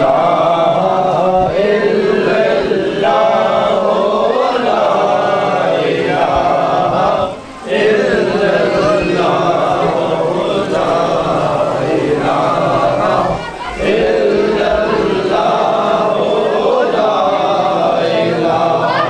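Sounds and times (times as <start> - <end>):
men chanting together: 0.0 - 19.0.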